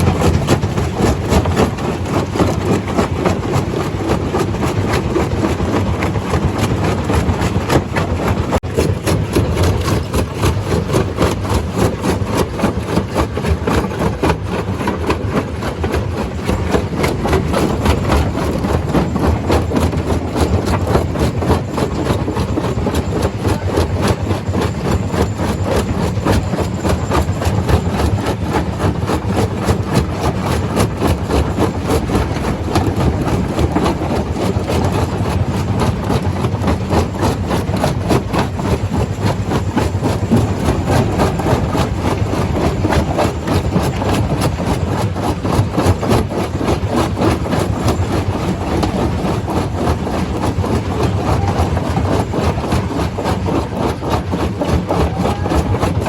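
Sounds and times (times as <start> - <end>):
low engine drone: 0.0 - 56.0
rock crushing rattle and clatter: 0.0 - 56.0.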